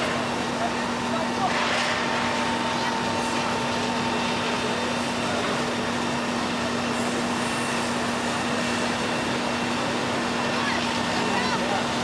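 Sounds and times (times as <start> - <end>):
demolition excavator running: 0.0 - 12.0
fire engine pumping water: 0.0 - 12.0.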